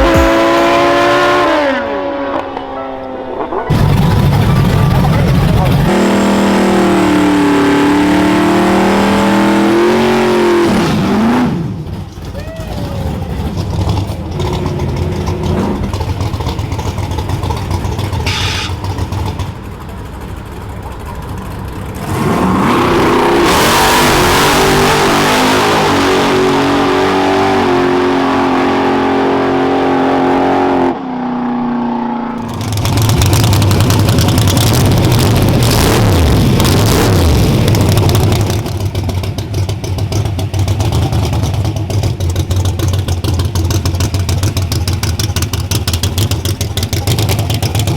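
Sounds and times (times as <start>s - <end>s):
engine revving at full throttle: 0.0s - 2.5s, 3.7s - 16.0s, 22.0s - 31.2s, 31.9s - 47.9s
deep engine rumble: 0.0s - 26.0s, 29.8s - 47.9s.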